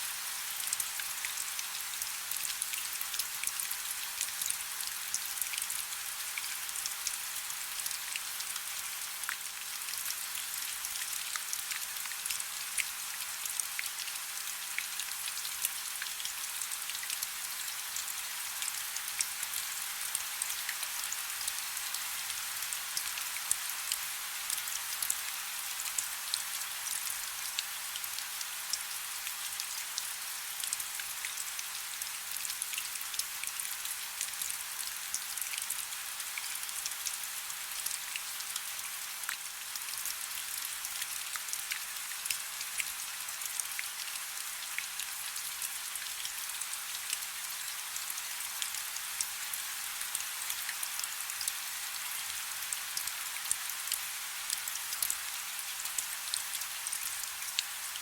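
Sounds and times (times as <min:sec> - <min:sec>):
soft rain pattering: 0:00.0 - 0:58.0.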